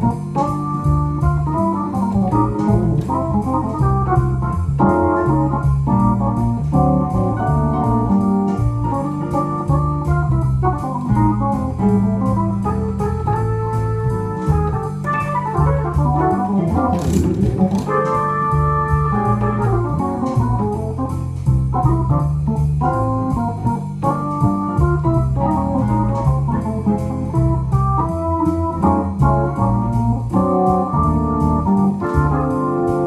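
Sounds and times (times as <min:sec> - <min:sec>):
electronic organ playing swing jazz: 0:00.0 - 0:33.0.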